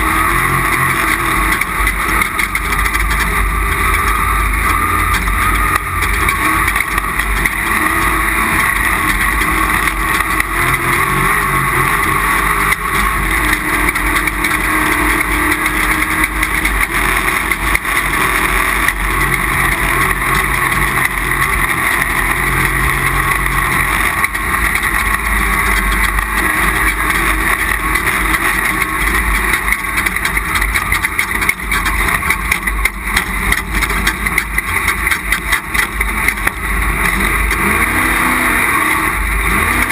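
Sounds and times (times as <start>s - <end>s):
off-road vehicle engine racing: 0.0s - 39.9s
steady rushing noise: 0.0s - 39.9s.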